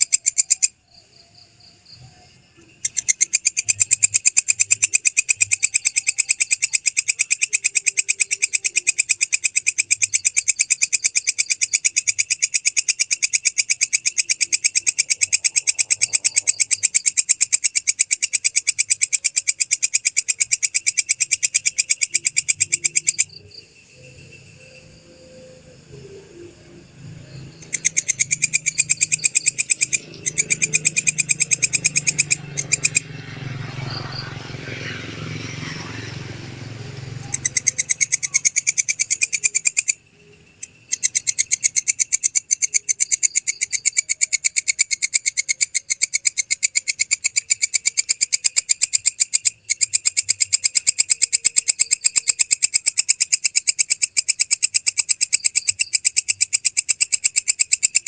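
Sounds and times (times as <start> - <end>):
katydid ticking chirps: 0.0 - 58.0.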